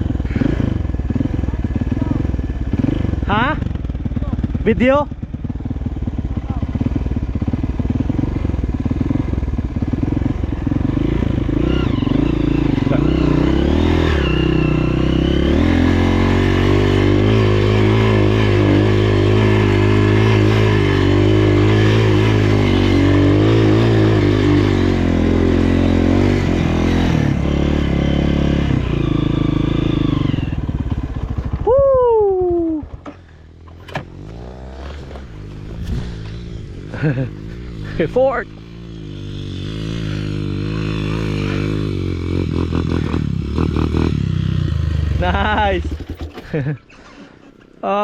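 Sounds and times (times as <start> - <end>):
dirt bike engine running: 0.0 - 46.8.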